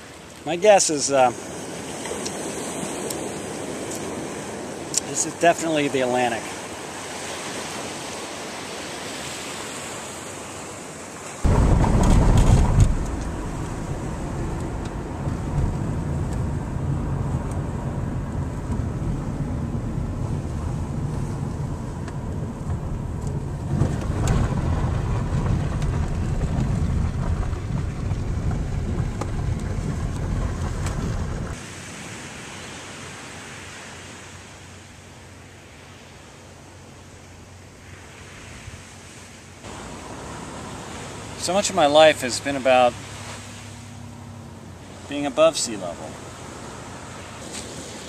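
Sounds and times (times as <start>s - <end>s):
car engine and tyre rumble: 0.0s - 48.0s
surf: 0.0s - 48.0s
wind: 0.0s - 48.0s.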